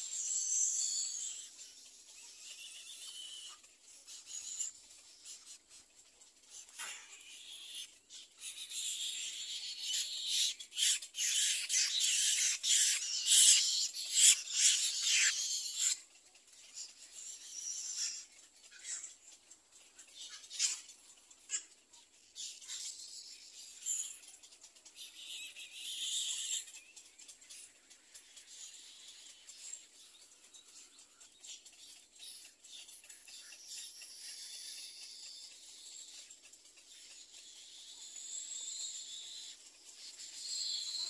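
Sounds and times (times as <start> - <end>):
bird chicks rasping chatter: 0.0 - 41.0.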